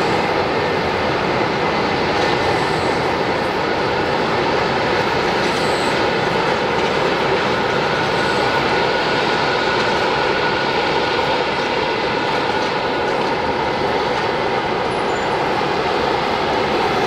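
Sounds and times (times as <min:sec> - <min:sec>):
faint jet engine whine: 0:00.0 - 0:17.0
jet engines rushing: 0:00.0 - 0:17.0.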